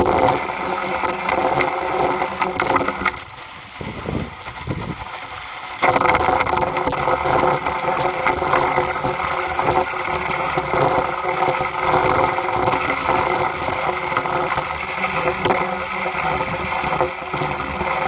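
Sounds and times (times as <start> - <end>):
wood scraping and crackling: 0.0 - 18.0.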